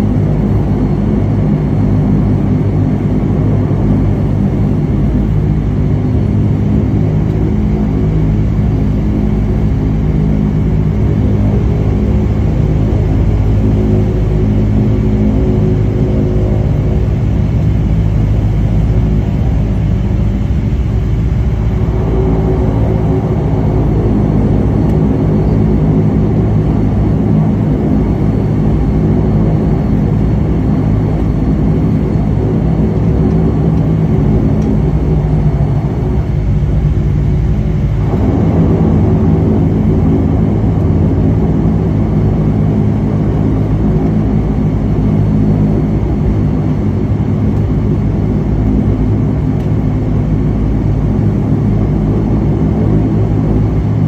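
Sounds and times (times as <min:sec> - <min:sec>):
turboprop engine and propeller drone: 0:00.0 - 0:54.0.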